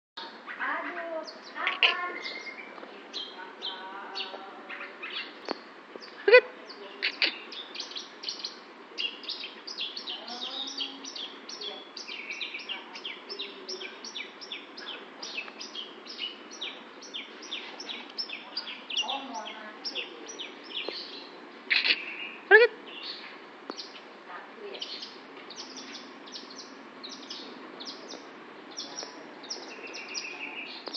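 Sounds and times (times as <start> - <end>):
faint background hiss: 0.2 - 30.9
small birds chirping: 0.2 - 30.9.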